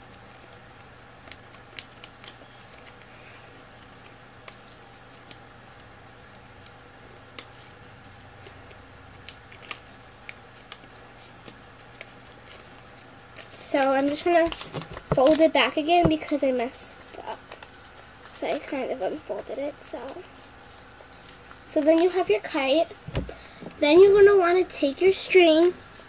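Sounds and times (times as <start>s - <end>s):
faint steady hum: 0.0s - 26.0s
paper being folded and creased: 0.1s - 7.8s, 8.9s - 23.1s.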